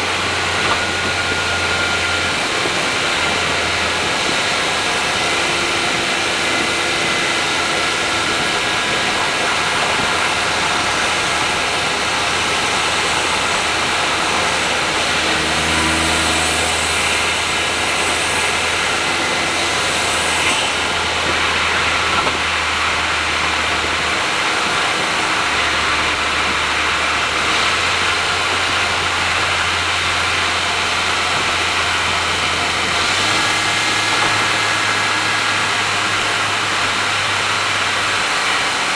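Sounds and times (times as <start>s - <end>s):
car engine drone: 0.0s - 38.9s
road and tyre noise: 0.0s - 38.9s.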